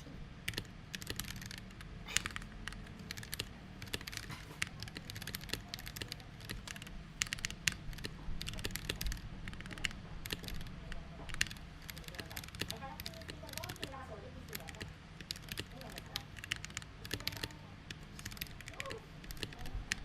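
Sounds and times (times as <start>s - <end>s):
mechanical keyboard typing: 0.0s - 20.0s.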